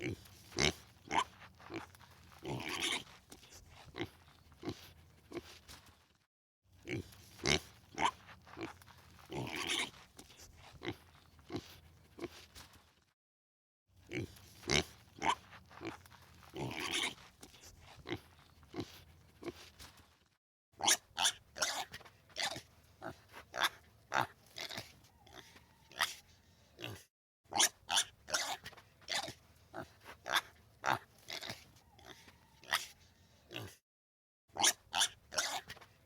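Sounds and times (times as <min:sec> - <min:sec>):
pigs grunting: 0:00.0 - 0:05.6, 0:06.8 - 0:12.5, 0:14.0 - 0:19.8, 0:20.8 - 0:33.8, 0:34.6 - 0:36.0
pigs crunching food: 0:00.0 - 0:13.1, 0:14.0 - 0:20.4, 0:21.2 - 0:26.4, 0:27.9 - 0:33.6, 0:34.6 - 0:36.0.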